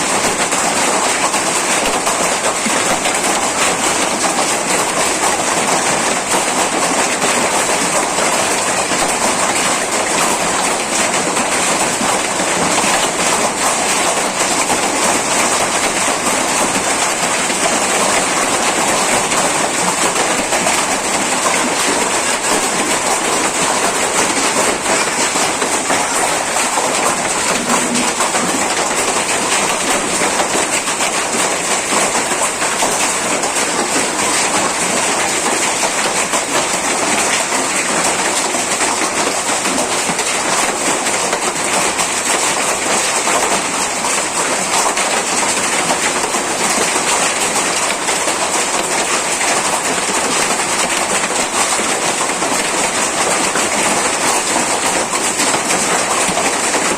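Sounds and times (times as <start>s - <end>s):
hail and heavy rain clattering: 0.0s - 56.9s.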